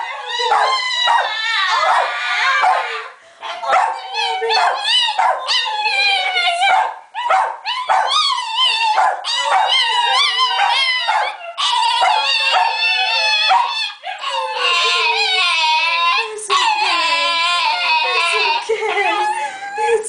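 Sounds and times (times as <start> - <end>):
dog howling: 0.0 - 19.7.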